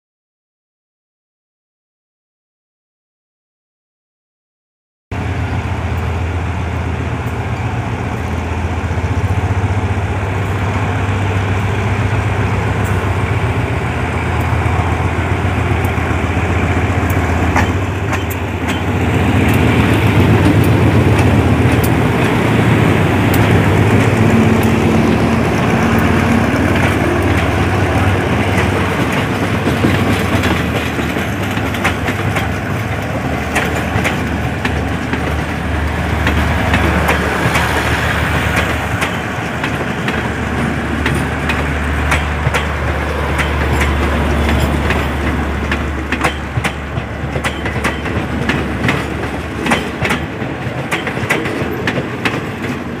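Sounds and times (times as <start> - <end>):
diesel locomotive engine drone: 5.1 - 53.0
train wheels clacking over rail joints: 7.2 - 53.0.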